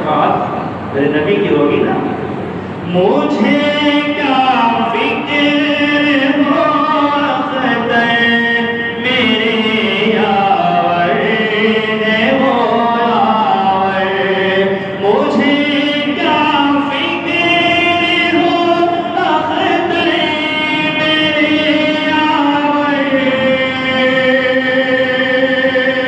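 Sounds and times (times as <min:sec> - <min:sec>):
person singing unaccompanied: 0:02.9 - 0:26.0.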